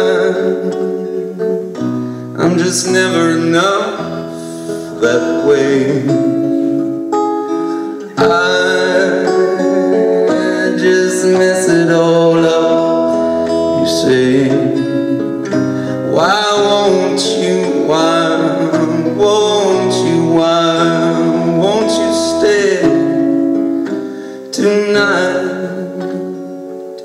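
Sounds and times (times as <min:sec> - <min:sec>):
man singing wordlessly: 0:00.0 - 0:01.7, 0:02.4 - 0:06.9, 0:08.1 - 0:23.5, 0:24.5 - 0:26.6
strummed acoustic guitar: 0:00.0 - 0:27.0.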